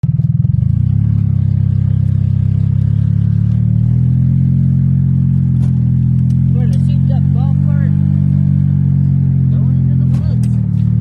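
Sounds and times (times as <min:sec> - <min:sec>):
golf cart engine drone: 0:00.0 - 0:11.0.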